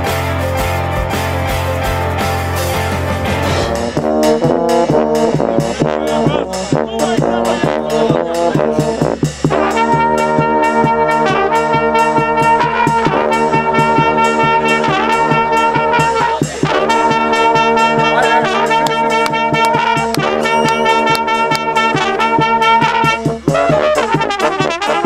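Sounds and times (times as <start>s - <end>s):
bass drum beat: 0.0s - 25.0s
trumpets and horns: 0.0s - 25.0s.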